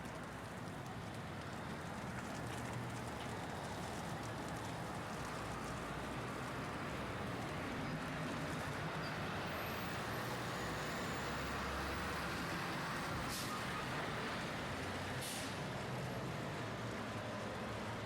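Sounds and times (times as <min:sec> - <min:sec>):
road traffic noise: 0:00.2 - 0:18.0.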